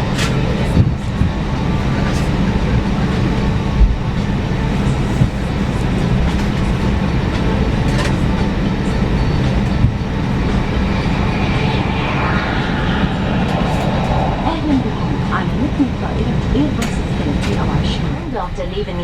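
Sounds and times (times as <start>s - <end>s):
airplane cabin rumble and hum: 0.0s - 19.0s.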